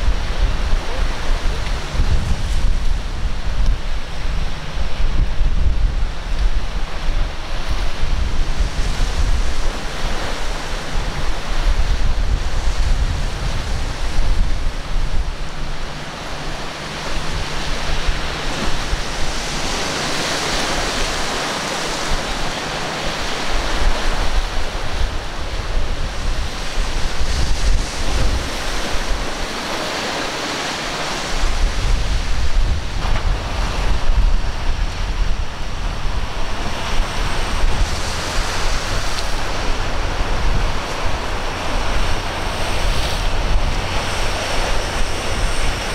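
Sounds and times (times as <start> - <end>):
heavy surf breaking: 0.0 - 45.9
wind buffeting microphone: 0.0 - 45.9.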